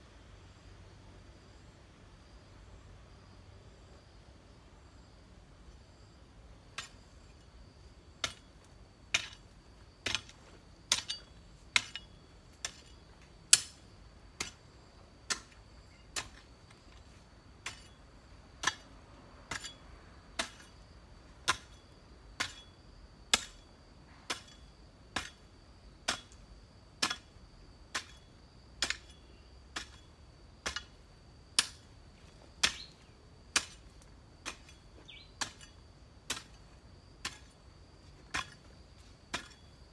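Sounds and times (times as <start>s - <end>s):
garden hoe chopping dry soil: 6.6s - 39.9s.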